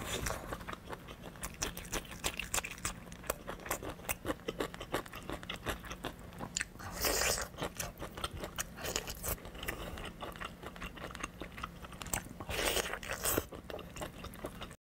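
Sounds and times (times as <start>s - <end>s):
chewing meat: 0.0s - 14.8s.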